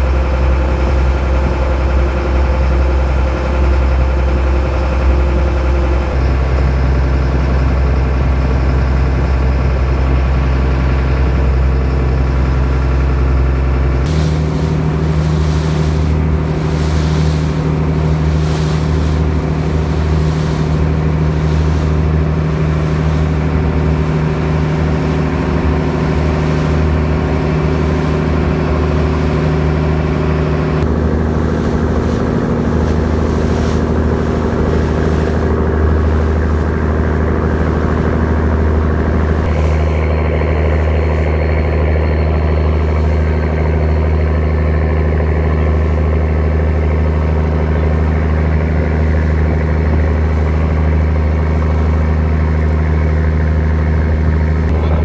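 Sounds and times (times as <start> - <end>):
boat engine running: 0.0 - 55.0
water rushing past hull: 0.0 - 55.0
wind: 0.0 - 55.0.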